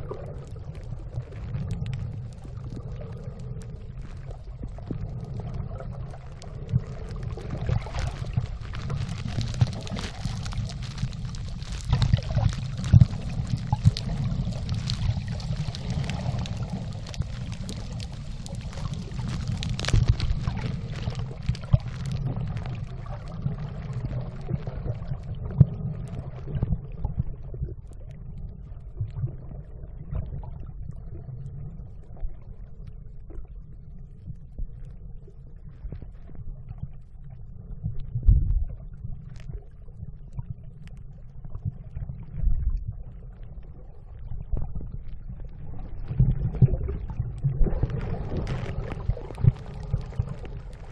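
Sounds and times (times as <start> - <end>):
clicks underwater: 0.0 - 30.6, 34.1 - 50.9
low underwater rumble: 0.0 - 50.9
water gurgling and sloshing: 0.0 - 50.9.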